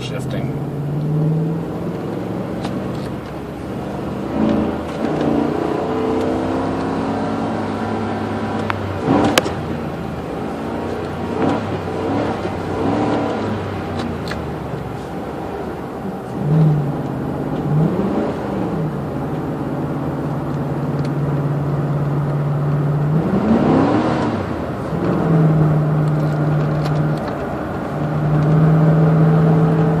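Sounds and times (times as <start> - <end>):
pickup truck engine drone: 0.0 - 30.0.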